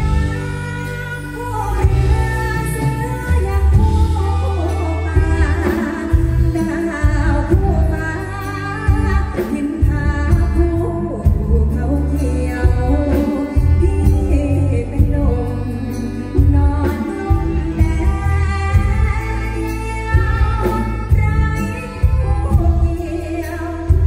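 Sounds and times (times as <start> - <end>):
bass notes: 0.0 - 24.0
drums: 0.0 - 24.0
live band playing: 0.0 - 24.0
woman singing into a microphone: 0.0 - 24.0.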